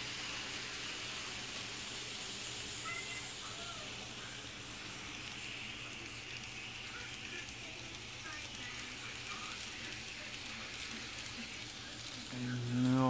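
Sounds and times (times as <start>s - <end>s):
model train running hiss: 0.0s - 13.0s.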